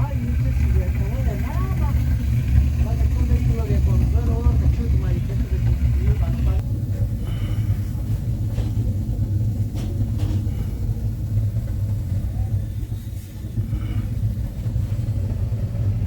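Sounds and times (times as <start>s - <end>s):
low machine drone: 0.0s - 16.0s.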